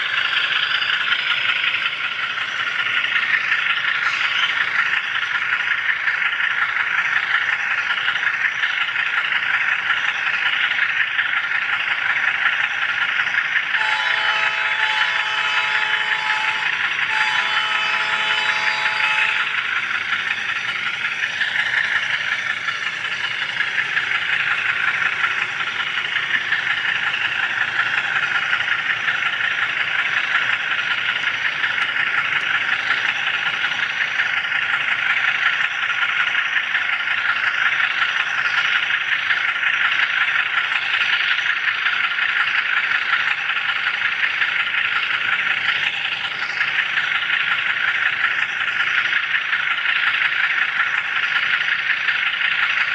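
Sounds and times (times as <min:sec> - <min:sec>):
model train wheels rattling on track: 0:00.0 - 0:52.9.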